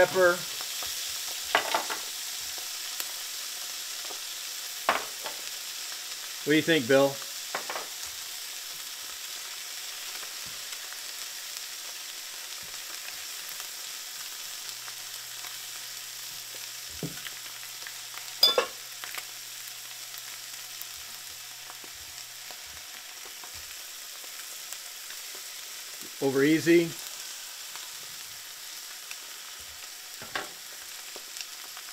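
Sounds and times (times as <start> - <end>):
food sizzling in a frying pan: 0.0 - 31.9.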